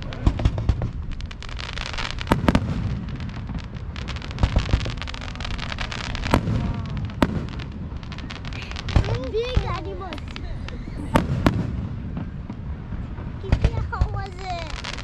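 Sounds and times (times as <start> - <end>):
fireworks crackling and popping: 0.0 - 15.0
fireworks rumbling: 0.0 - 15.0
loud firework bangs: 0.0 - 15.0.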